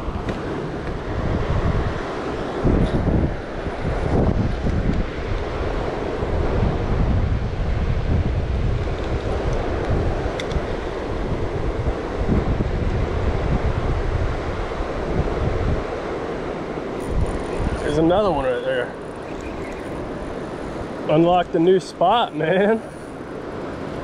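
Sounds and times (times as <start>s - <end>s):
river current rushing: 0.0s - 24.0s
wind buffeting microphone: 0.0s - 24.0s.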